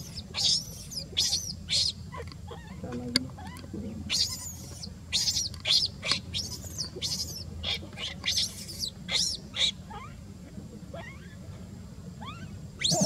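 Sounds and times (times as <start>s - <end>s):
baby monkey squealing: 0.0s - 2.8s, 3.4s - 10.2s, 10.9s - 11.4s, 12.2s - 13.0s.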